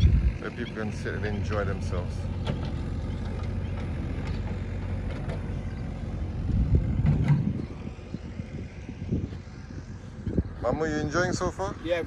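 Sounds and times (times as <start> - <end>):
backhoe engine running: 0.0 - 12.0.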